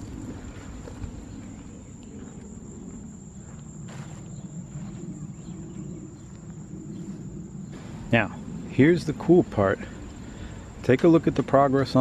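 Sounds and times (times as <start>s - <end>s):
crickets trilling: 0.0s - 12.0s
low background rumble: 0.0s - 12.0s.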